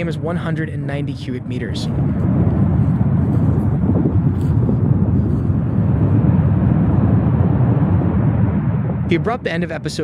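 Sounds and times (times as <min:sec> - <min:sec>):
steady low rumbling: 0:00.0 - 0:10.0.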